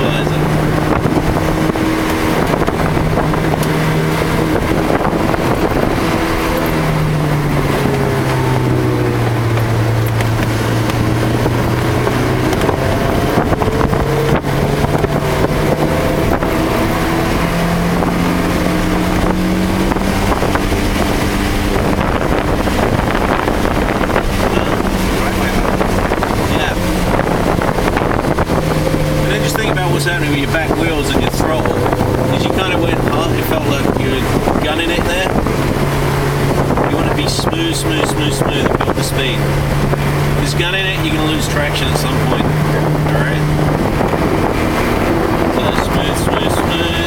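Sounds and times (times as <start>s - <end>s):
car engine changing gears: 0.0s - 47.0s
road and spray rushing: 0.0s - 47.0s.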